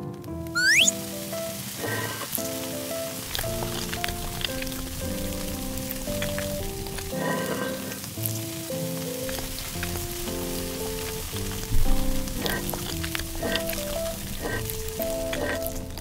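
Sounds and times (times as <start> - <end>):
light music melody: 0.0 - 16.0
rice sizzling on a griddle: 1.0 - 16.0.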